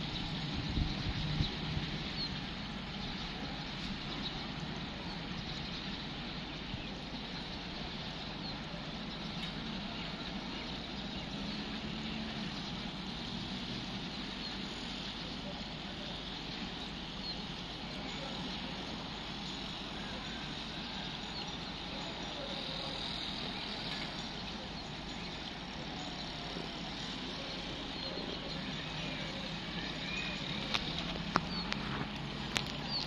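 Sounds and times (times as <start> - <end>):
faint bird chirps: 0.0 - 33.0
low hum of distant engines: 0.0 - 33.0.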